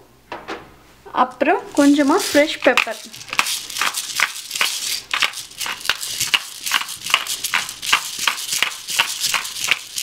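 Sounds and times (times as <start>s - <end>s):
pepper mill grinding: 1.3s - 10.0s.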